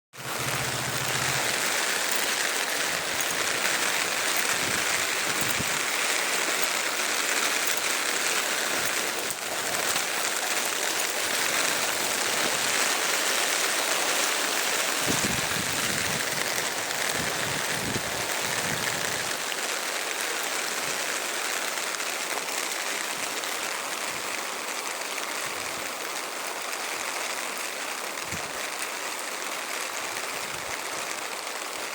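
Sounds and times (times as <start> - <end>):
rain falling: 0.1 - 31.9.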